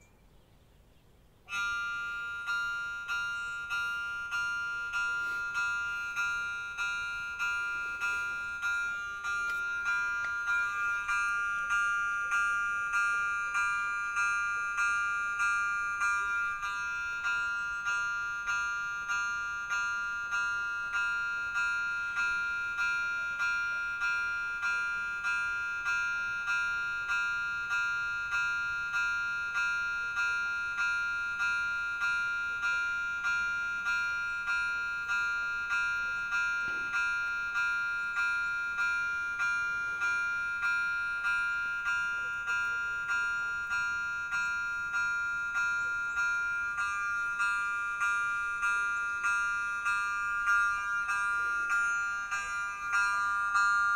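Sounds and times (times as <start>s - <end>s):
level crossing warning bell: 0.0s - 0.2s, 1.4s - 53.9s.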